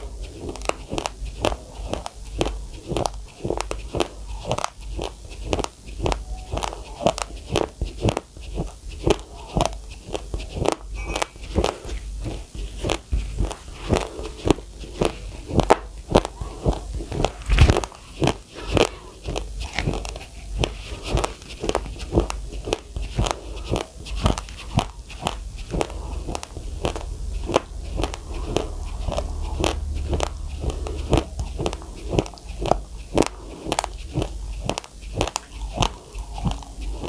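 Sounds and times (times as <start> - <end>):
person chewing raw rice: 0.0 - 37.0.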